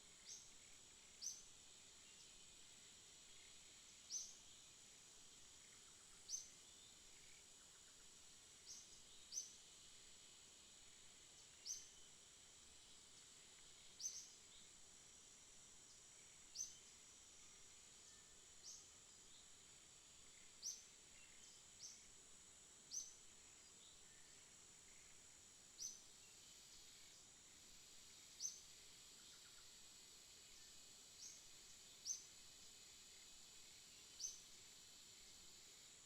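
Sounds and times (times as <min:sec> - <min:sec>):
faint high-pitched hiss: 0:00.0 - 0:36.0.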